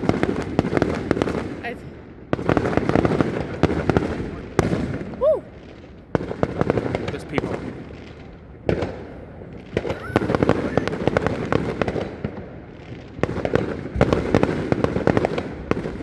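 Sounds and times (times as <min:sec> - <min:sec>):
fireworks popping and crackling: 0:00.0 - 0:16.0.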